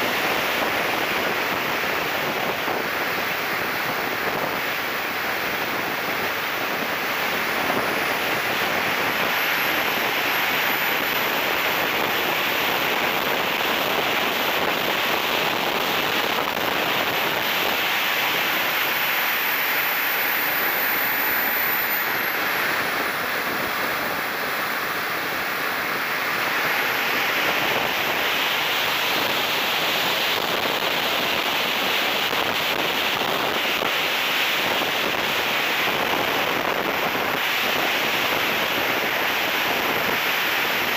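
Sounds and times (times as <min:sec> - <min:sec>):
air rushing over microphone: 0:00.0 - 0:40.9
jet turbine whine: 0:00.0 - 0:40.9.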